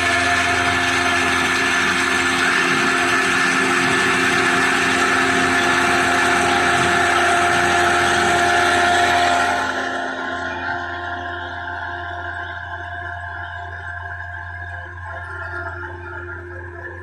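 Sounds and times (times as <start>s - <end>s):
milling machine running: 0.0s - 17.0s
steady whining tones: 0.0s - 17.0s.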